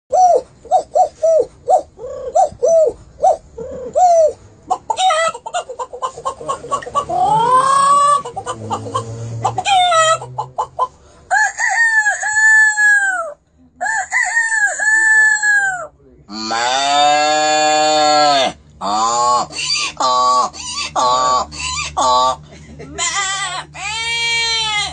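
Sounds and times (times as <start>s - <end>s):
fowl clucking and crowing: 3.6s - 24.9s.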